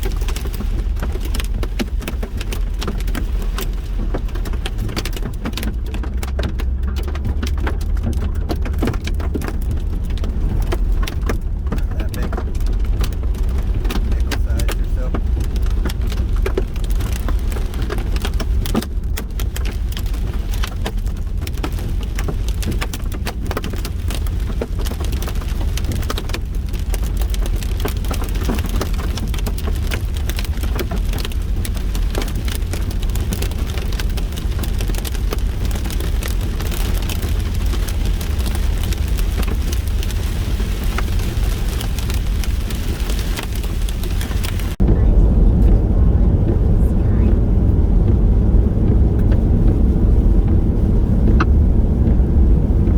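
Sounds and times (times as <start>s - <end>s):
rain and hail on a vehicle: 0.0s - 52.9s.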